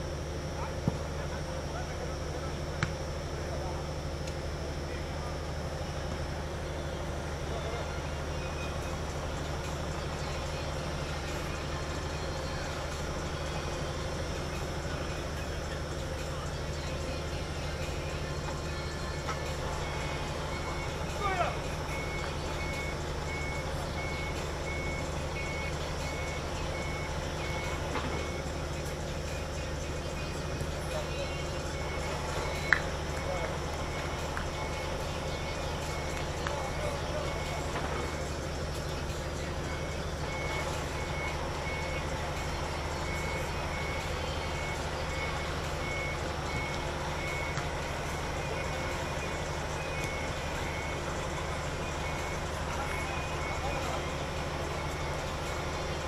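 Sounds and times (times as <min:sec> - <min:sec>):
high electronic beeps: 0:04.9 - 0:56.0.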